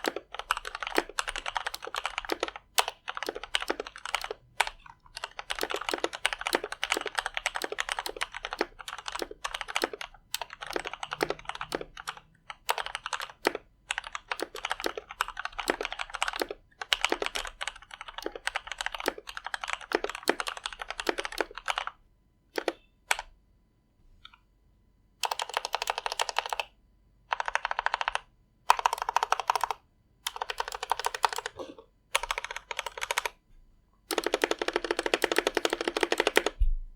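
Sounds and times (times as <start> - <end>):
typing on mechanical keyboard: 0.0 - 23.3, 25.2 - 33.4, 34.1 - 36.6.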